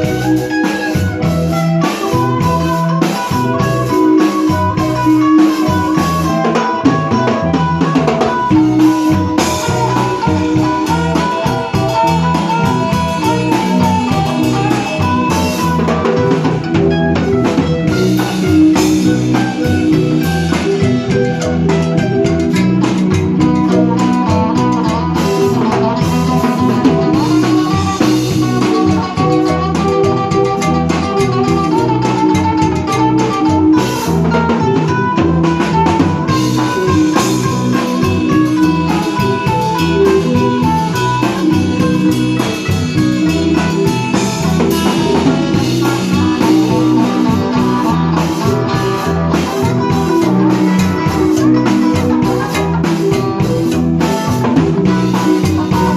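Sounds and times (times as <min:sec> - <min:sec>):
drums: 0:00.0 - 0:55.9
guitar: 0:00.0 - 0:55.9
repeating bass line: 0:00.0 - 0:55.9.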